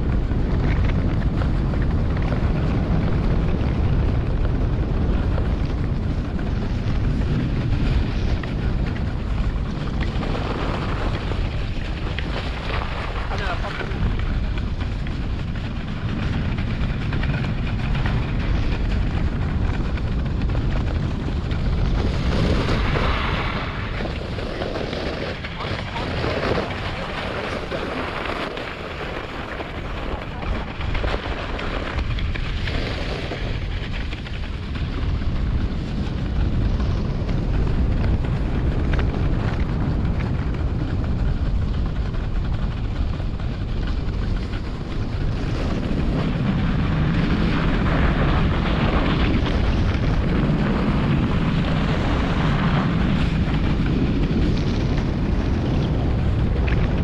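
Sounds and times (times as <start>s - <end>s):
sled runners scraping on snow: 0.0s - 57.0s
wind on microphone: 0.0s - 57.0s.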